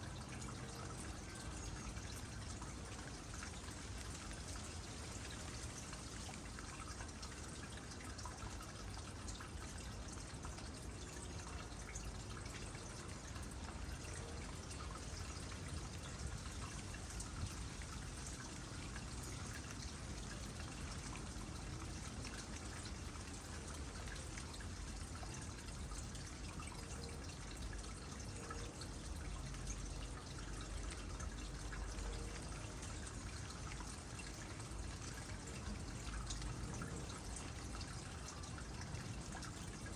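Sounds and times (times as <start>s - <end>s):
water drips and splashes: 0.0s - 39.9s
water trickling into a pond: 0.0s - 39.9s.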